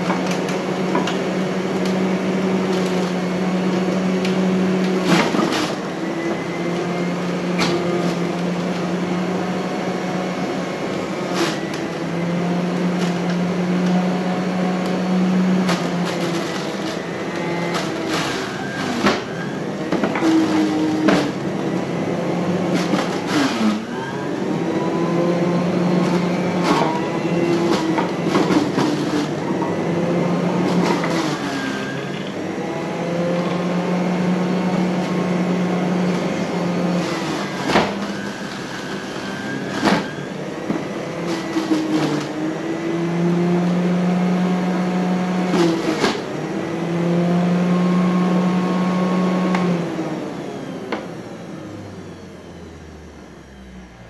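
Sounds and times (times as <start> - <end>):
electric juicer motor humming: 0.0 - 54.0.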